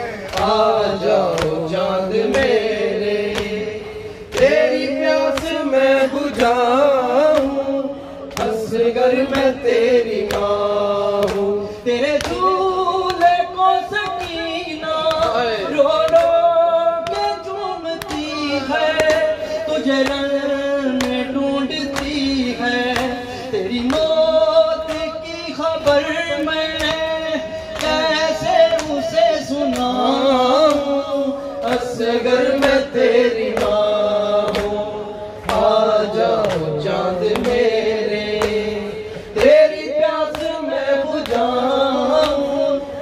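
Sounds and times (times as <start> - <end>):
steady beat of sharp strikes: 0.0 - 42.9
man singing through a microphone: 0.0 - 43.0.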